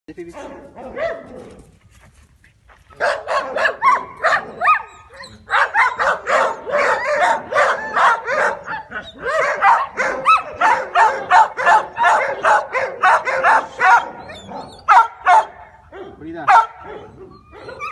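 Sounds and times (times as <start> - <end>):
young dog barking and yipping: 0.4 - 1.7, 2.9 - 17.9.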